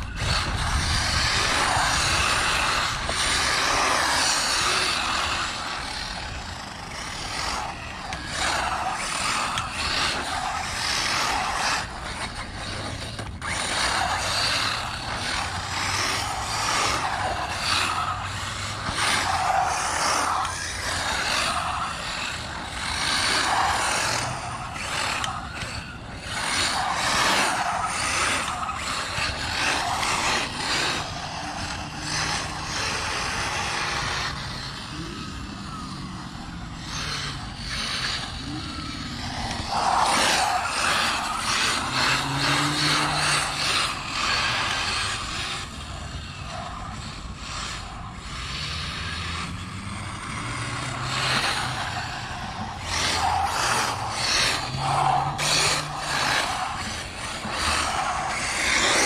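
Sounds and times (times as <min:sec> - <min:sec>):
electric motor whine: 0:00.0 - 0:59.0
tyres rushing on pavement: 0:00.0 - 0:59.0.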